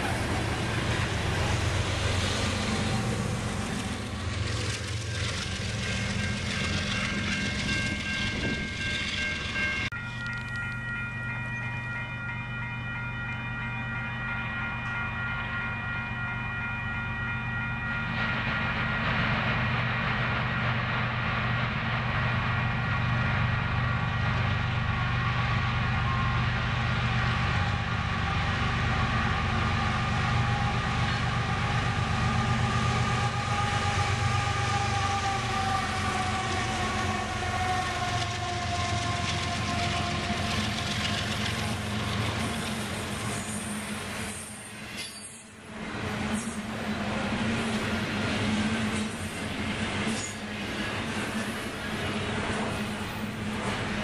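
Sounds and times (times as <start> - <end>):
diesel locomotives rolling past: 0.0 - 54.0.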